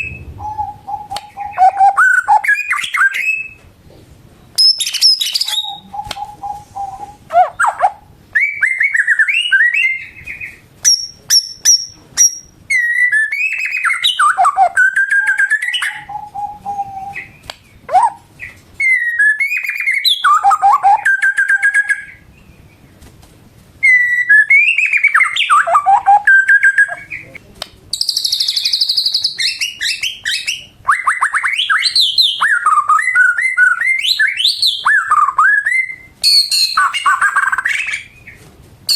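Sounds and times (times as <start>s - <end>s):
bird singing whistles and trills: 0.0s - 3.6s, 4.4s - 22.8s, 23.8s - 38.9s.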